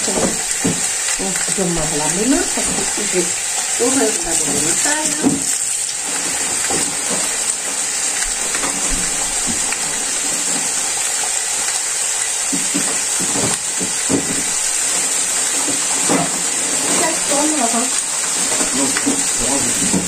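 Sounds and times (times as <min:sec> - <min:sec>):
meat and onions sizzling in a pan: 0:00.0 - 0:20.0.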